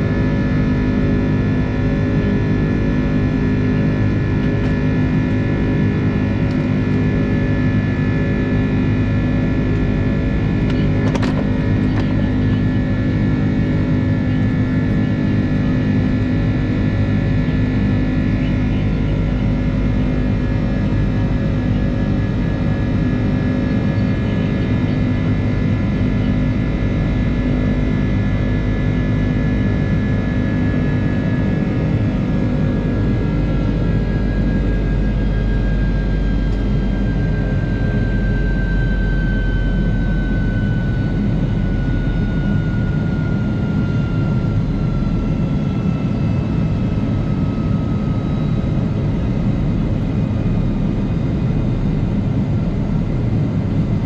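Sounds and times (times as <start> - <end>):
jet engines heard from cabin: 0.0 - 54.0.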